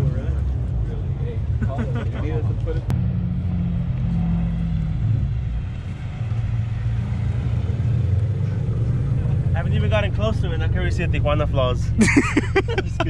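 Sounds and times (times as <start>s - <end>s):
car engine running low: 0.0s - 13.0s.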